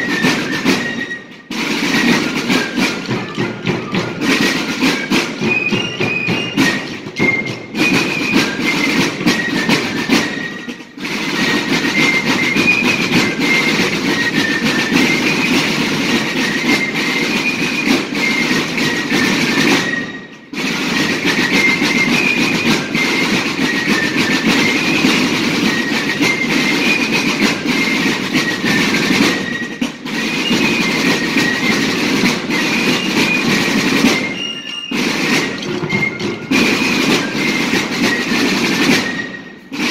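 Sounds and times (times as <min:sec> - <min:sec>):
snare and bass drums: 0:00.0 - 0:39.9.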